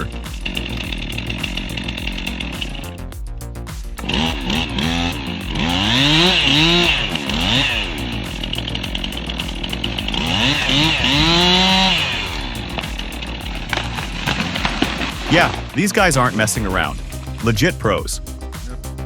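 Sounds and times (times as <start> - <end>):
chainsaw cutting a tree: 0.0 - 2.9, 4.0 - 17.2.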